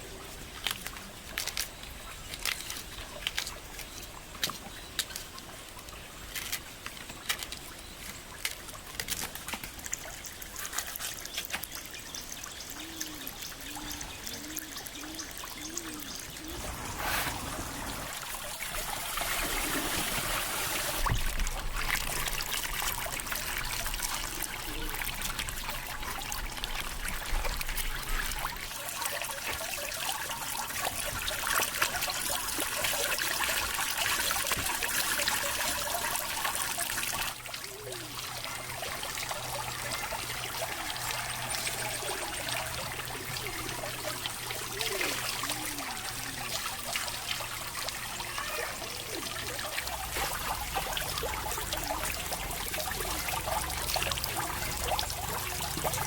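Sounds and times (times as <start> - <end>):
water running and trickling: 0.0 - 56.0.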